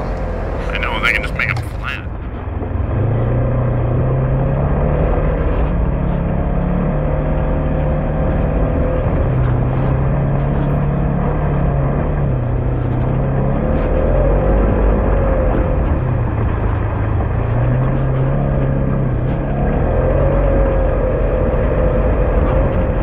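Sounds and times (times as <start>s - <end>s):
utility vehicle engine running: 0.0s - 23.0s.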